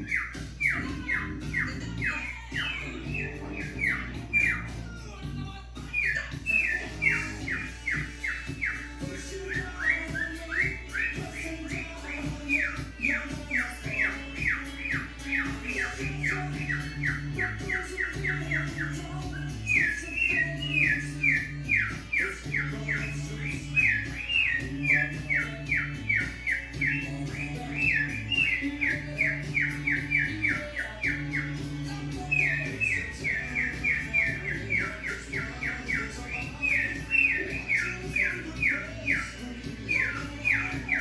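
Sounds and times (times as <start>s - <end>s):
cockatiel whistled chirps: 0.0s - 5.1s, 5.8s - 41.0s
background music with bass: 0.0s - 41.0s.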